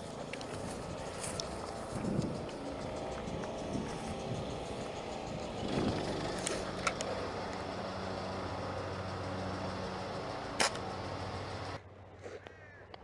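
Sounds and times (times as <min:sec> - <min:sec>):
engine-like hum: 0:00.0 - 0:13.0.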